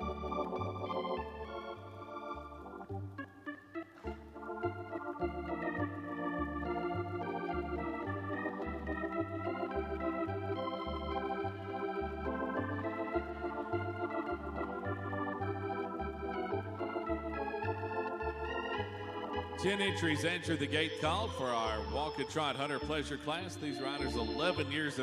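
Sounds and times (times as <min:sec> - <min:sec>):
organ music: 0:00.0 - 0:25.0.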